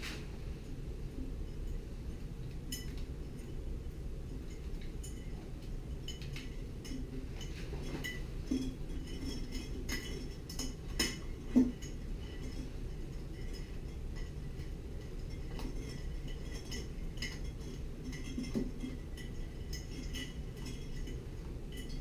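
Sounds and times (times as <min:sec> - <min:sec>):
steel wires clinking against glass: 0:00.6 - 0:22.0.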